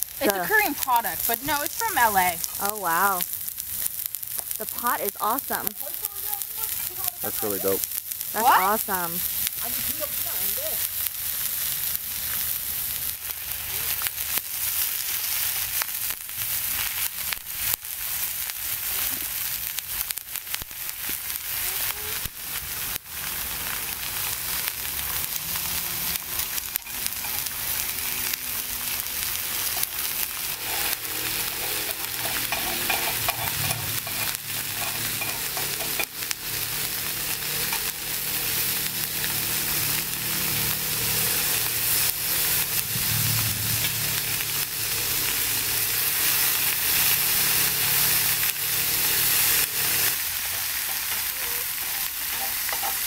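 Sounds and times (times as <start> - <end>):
pork sizzling on a grill pan: 0.0 - 53.0.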